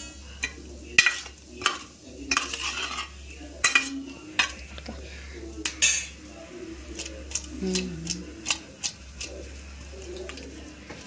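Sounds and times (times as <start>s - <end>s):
food stirred on a steel plate: 0.0s - 11.0s.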